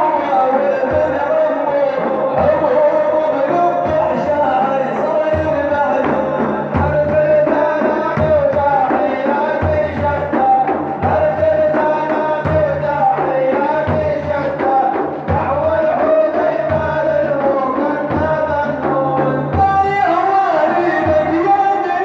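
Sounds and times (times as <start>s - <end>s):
devotional praise song: 0.0s - 22.0s.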